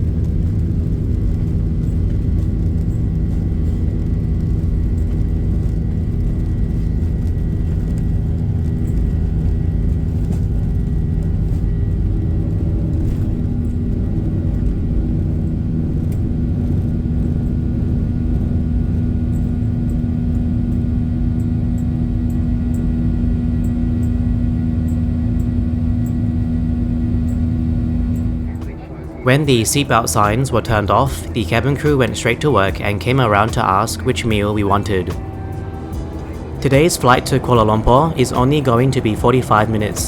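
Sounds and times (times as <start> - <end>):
airplane cabin rumble: 0.0 - 40.0
low steady hum: 0.0 - 40.0.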